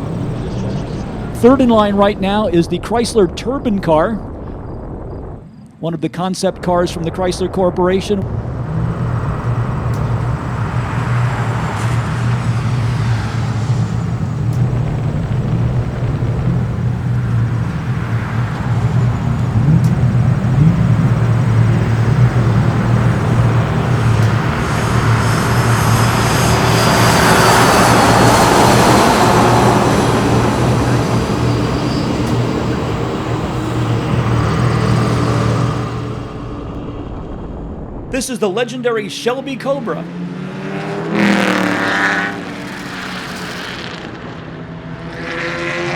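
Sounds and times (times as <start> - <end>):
turbine car passing: 0.0 - 2.6, 7.3 - 38.2, 39.7 - 45.9
high falling whine: 0.0 - 43.6
low engine drone: 0.0 - 45.9.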